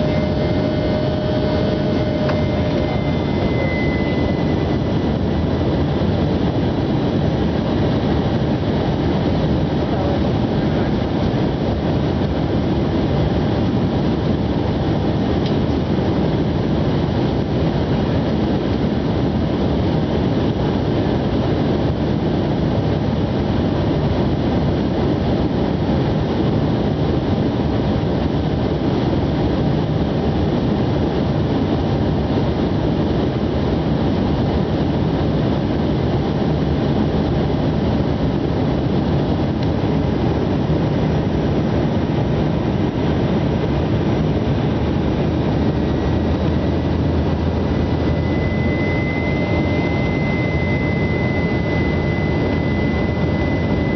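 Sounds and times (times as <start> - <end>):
aircraft engines droning: 0.0 - 53.9.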